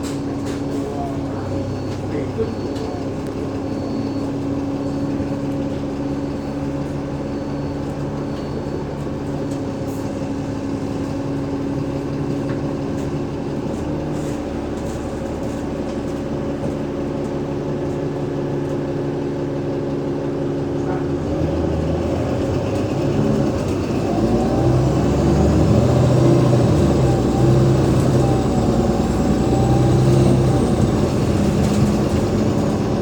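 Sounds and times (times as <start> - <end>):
bus engine droning: 0.0 - 33.0.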